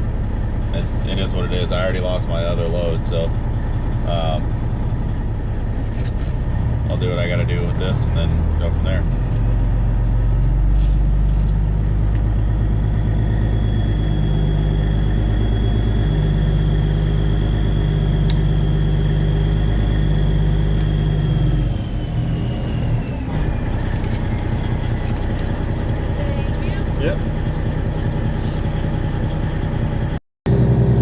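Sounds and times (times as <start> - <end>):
high whine: 0.0 - 31.0
truck exhaust rumble: 0.0 - 31.0.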